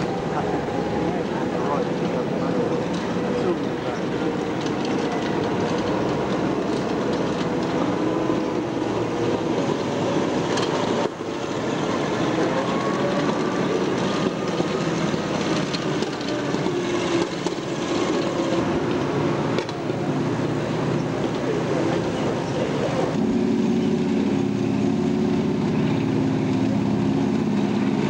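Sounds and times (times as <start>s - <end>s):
tracked vehicle engine running: 0.0s - 28.0s
tracks clattering: 0.0s - 28.0s.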